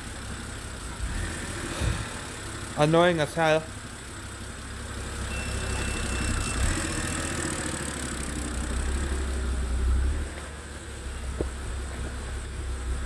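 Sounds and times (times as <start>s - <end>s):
car engine idling roughly: 0.0s - 13.0s.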